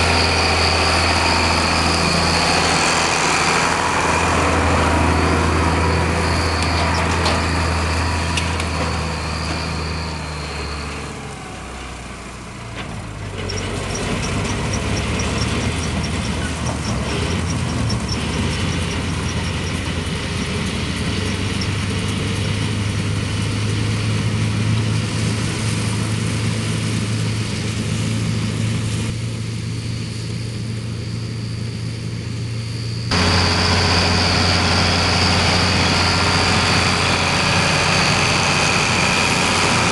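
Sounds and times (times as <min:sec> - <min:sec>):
combine threshing machinery: 0:00.0 - 0:39.9
tractor diesel engine running: 0:00.0 - 0:39.9.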